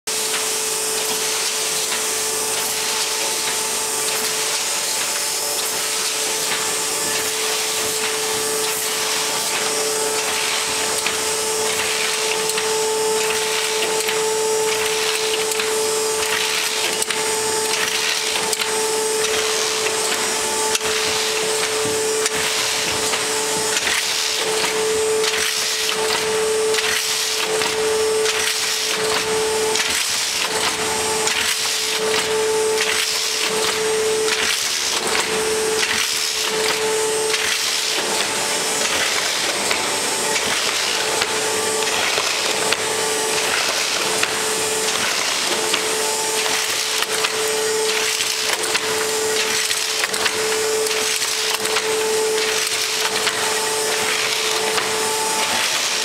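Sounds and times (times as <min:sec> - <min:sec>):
die-cutter machine hum and clatter: 0:00.0 - 0:56.0.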